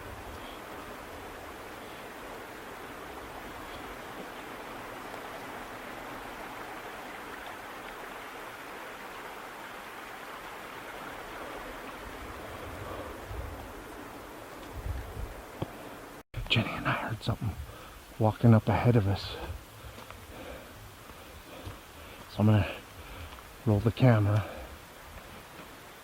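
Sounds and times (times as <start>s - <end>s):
running water stream: 0.0s - 26.0s.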